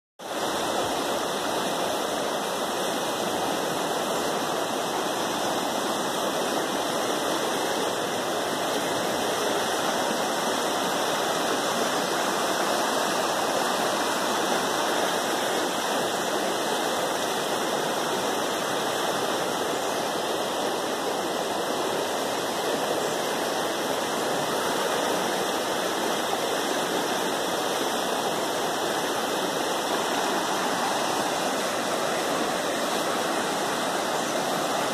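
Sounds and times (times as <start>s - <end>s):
river rushing over rapids: 0.2s - 34.9s.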